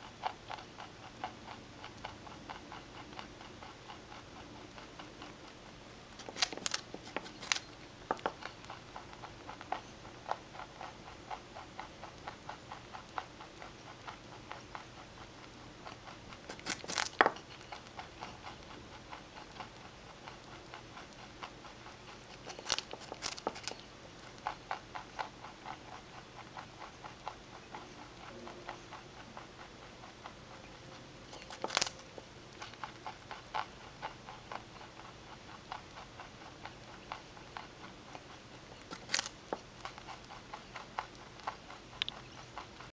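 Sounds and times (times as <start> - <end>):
rabbit chewing carrots: 0.0 - 42.9.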